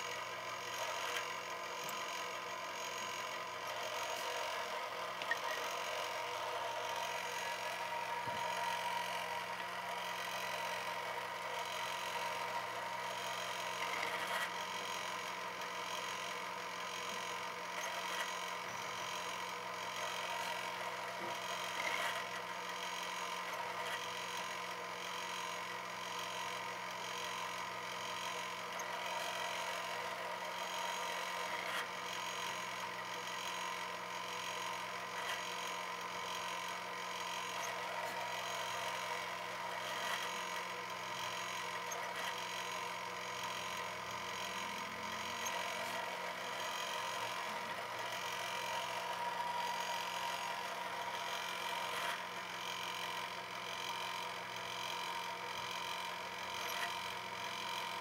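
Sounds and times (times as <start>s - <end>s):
drill press drilling into metal: 0.0s - 58.0s.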